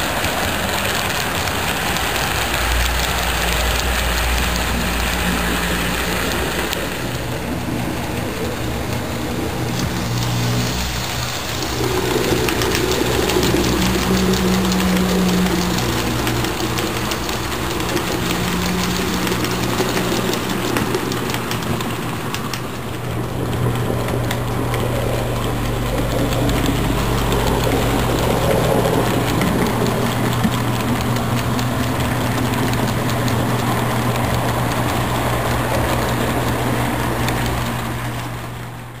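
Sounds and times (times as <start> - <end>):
model train running: 0.0 - 39.0
wheels clicking on rails: 0.0 - 39.0.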